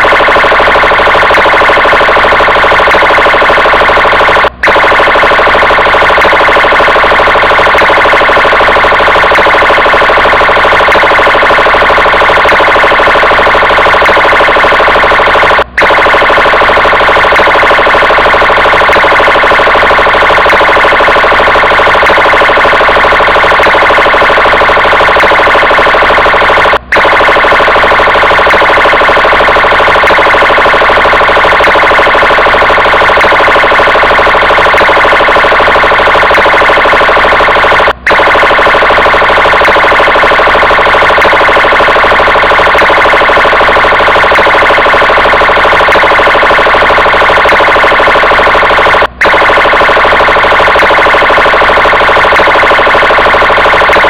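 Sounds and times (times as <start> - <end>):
police siren: 0.0 - 54.0.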